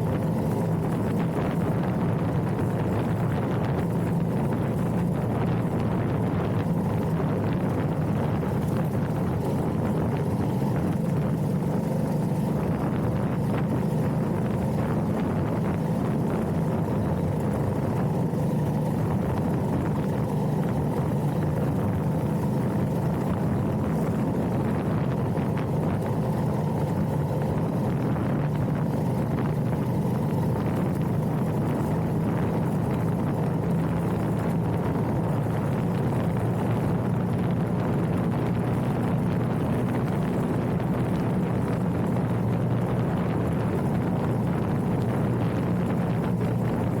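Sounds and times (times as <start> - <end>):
motorcycle engine drone: 0.0 - 47.0.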